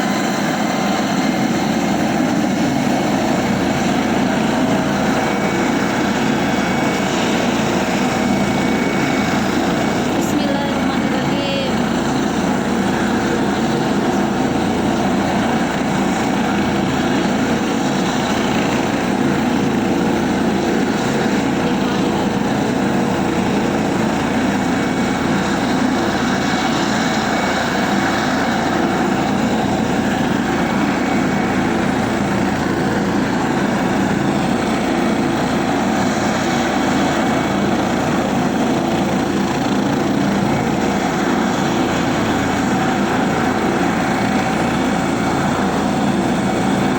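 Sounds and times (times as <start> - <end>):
helicopter cabin drone: 0.0 - 46.9.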